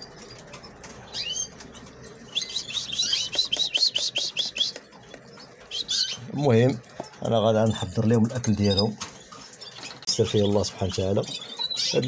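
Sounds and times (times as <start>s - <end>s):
canaries chirping: 0.0s - 12.0s.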